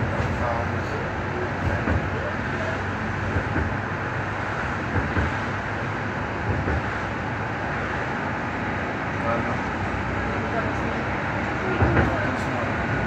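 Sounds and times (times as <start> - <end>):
light-rail car running: 0.0 - 13.0.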